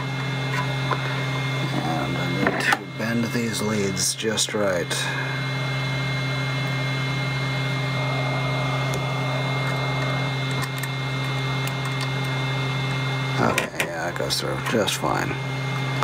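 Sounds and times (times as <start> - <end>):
hot air gun fan whirring: 0.0 - 16.0.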